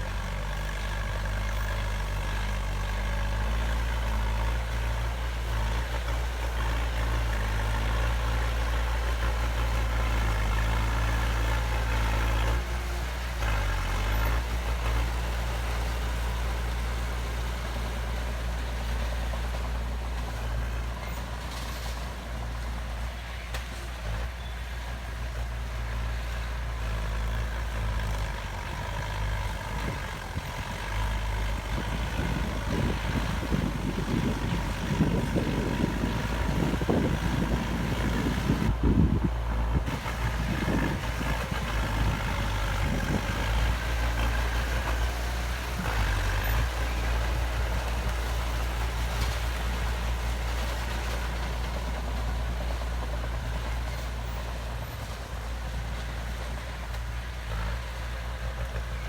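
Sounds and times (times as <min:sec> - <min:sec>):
diesel construction machinery: 0:00.0 - 0:59.0
rough rumbling and clatter: 0:00.0 - 0:59.0.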